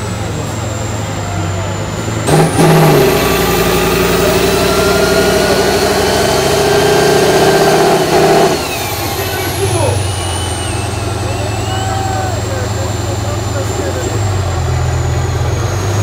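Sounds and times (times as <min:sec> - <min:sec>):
high whine: 0:00.0 - 0:15.8
truck diesel engine revving: 0:00.0 - 0:16.0.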